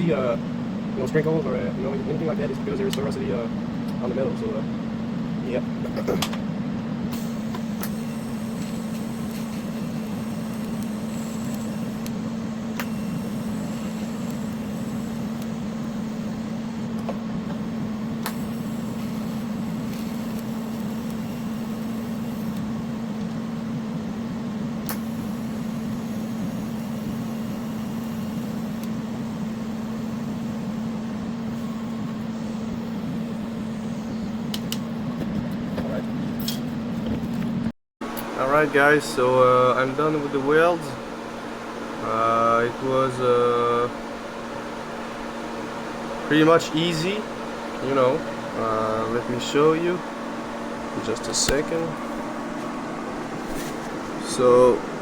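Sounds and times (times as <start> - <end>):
welding hum and hiss: 0.0 - 55.0.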